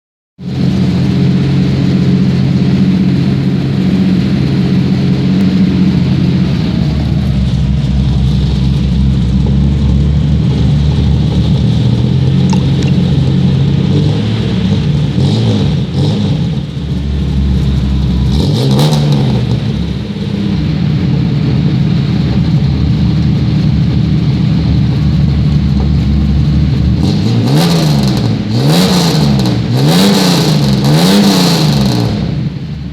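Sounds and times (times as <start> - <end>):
car engine idling and revving: 0.4 - 32.9.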